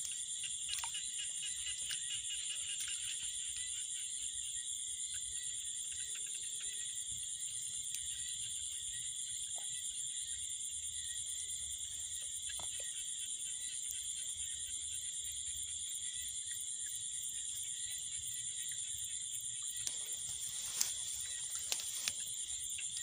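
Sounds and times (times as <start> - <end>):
crickets and insects trilling: 0.0 - 23.0.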